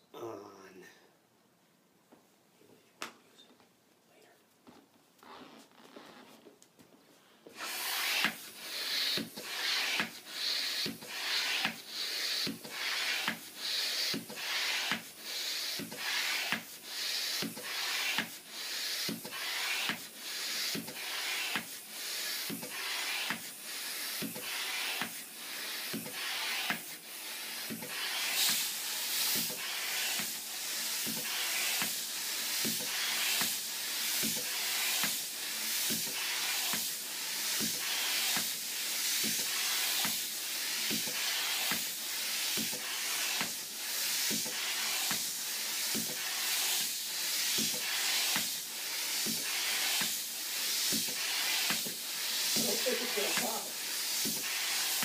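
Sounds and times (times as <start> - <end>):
hand air pump hissing: 7.5 - 55.0.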